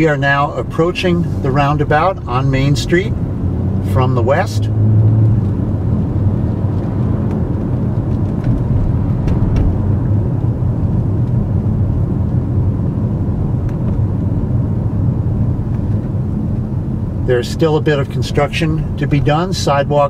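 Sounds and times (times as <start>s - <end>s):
engine and road noise: 0.0s - 20.0s.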